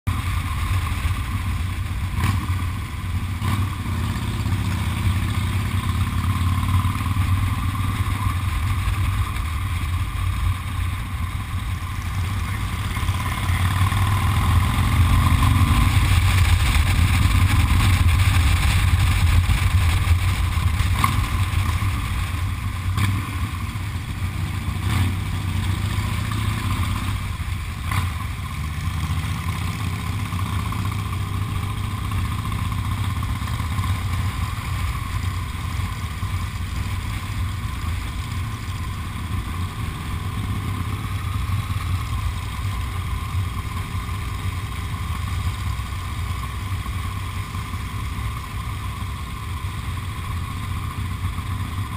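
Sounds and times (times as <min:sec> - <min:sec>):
motorcycle engine running: 0:00.1 - 0:51.9.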